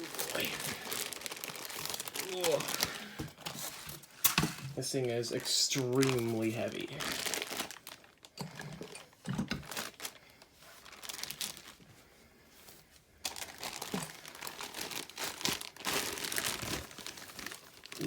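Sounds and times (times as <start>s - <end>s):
packing material crinkling: 0.0s - 12.0s, 13.2s - 18.0s.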